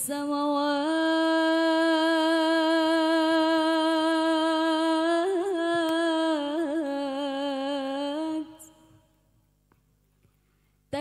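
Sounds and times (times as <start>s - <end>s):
woman singing a long held note: 0.0s - 8.9s.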